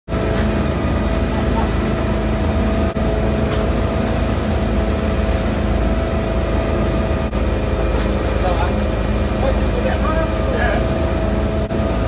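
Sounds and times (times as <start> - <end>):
motorboat engine running: 0.1 - 12.0
wake churning water: 0.1 - 12.0.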